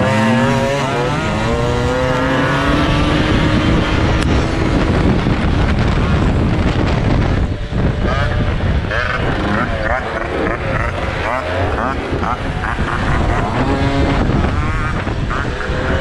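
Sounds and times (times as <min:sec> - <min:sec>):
small motorcycle engine roaring: 0:00.0 - 0:16.0.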